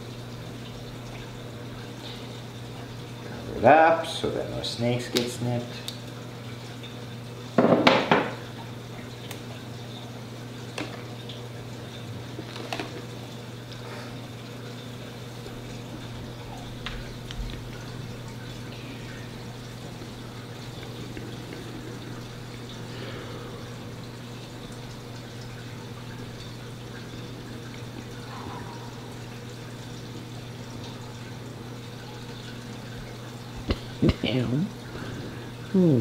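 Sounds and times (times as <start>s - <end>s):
tank pumps humming: 0.0s - 36.0s
trickling running water: 0.0s - 36.0s.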